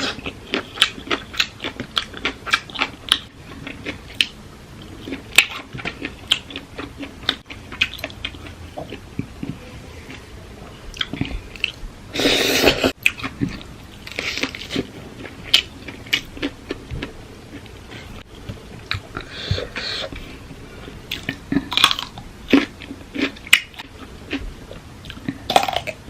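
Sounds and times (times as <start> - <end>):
crunching and chewing food: 0.0 - 10.3, 10.9 - 11.8, 12.9 - 26.0.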